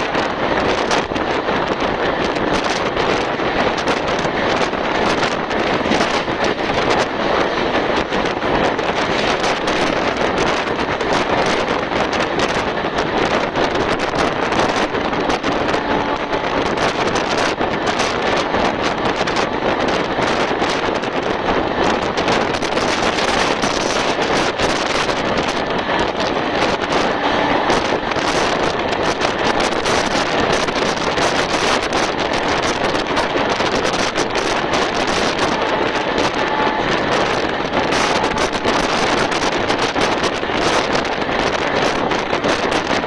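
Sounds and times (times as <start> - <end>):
train running noise: 0.0 - 43.0
wind hitting microphone: 0.0 - 43.0.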